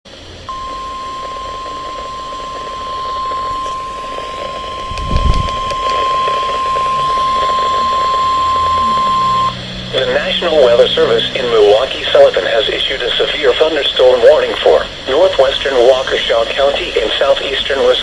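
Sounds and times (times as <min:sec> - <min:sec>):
radio hiss: 0:00.1 - 0:18.0
steady high alarm tone: 0:00.4 - 0:17.4.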